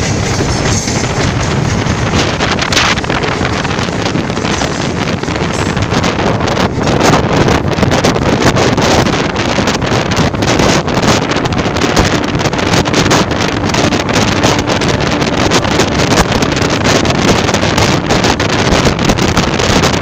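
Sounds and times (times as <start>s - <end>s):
train rumbling on track: 0.0s - 20.0s
wind buffeting microphone: 0.0s - 20.0s.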